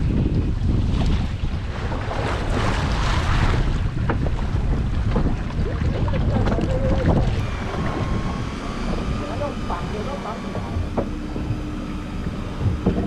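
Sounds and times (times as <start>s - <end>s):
boat engine rumble: 0.0s - 13.0s
water noise: 0.0s - 13.0s
wind buffeting microphone: 0.0s - 13.0s.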